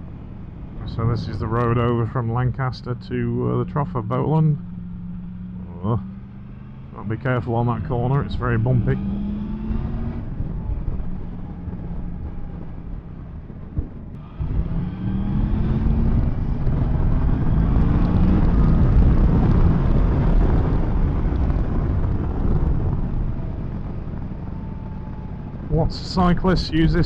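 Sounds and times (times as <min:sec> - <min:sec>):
wind rushing over microphone: 0:00.0 - 0:27.0
motorcycle engine revving: 0:03.1 - 0:12.8, 0:14.2 - 0:26.9.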